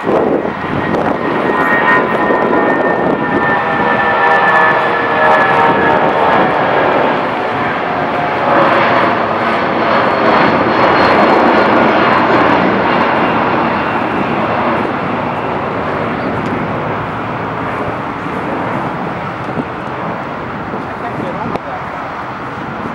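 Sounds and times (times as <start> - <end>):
faint high jet whine: 0.0 - 22.9
jet airliner climbing: 0.0 - 22.9.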